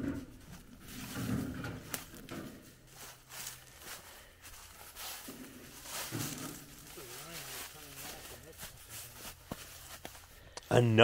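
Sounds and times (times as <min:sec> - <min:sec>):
footsteps crunching dry leaves: 0:00.8 - 0:10.4.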